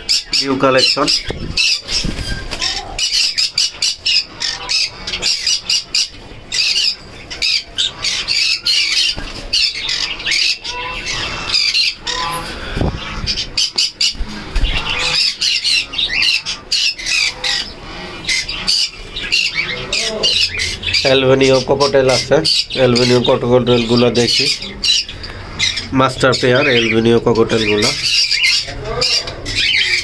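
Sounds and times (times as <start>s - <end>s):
parrots squawking and chirping: 0.0s - 30.0s.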